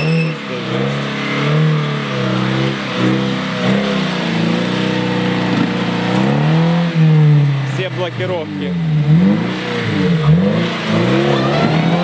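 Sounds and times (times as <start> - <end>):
car engine revving under load: 0.0 - 12.0.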